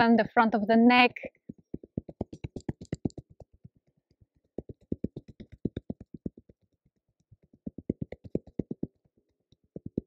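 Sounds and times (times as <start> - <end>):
fingertips tapping on chest: 1.3 - 10.0.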